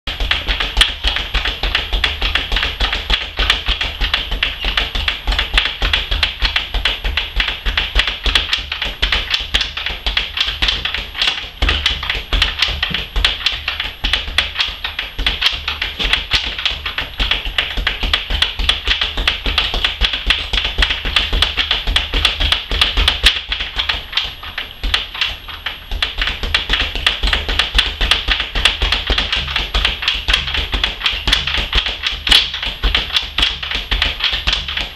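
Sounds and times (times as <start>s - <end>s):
speed bag punching taps: 0.1s - 34.9s.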